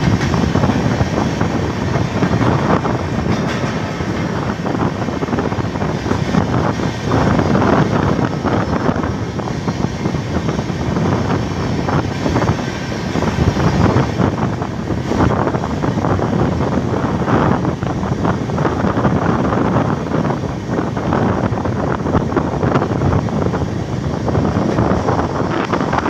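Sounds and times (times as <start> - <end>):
train wheels rumbling on track: 0.0 - 26.0
wind buffeting microphone: 0.0 - 26.0.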